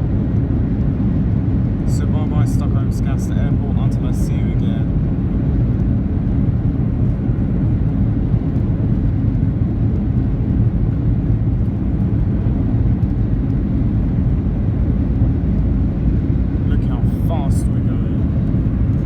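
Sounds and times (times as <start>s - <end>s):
jet engines at full thrust: 0.0s - 19.0s
wheels rumbling on runway: 0.0s - 19.0s.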